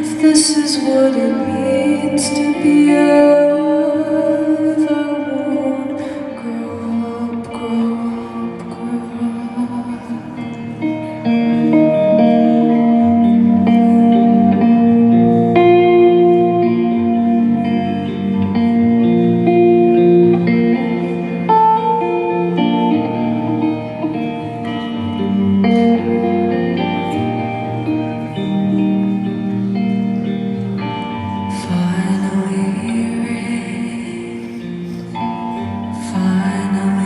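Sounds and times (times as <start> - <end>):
guitar ringing chords: 0.0 - 37.0
live rock music: 0.0 - 37.0.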